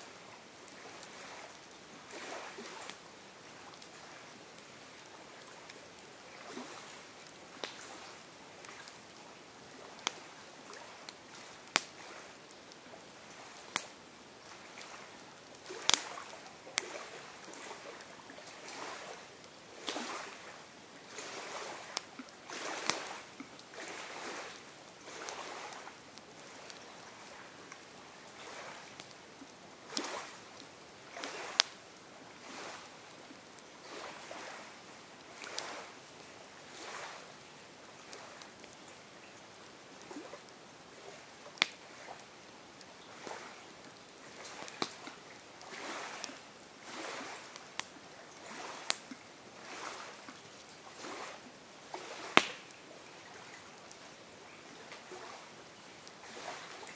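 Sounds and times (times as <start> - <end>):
campfire wood crackling: 0.1 - 56.9.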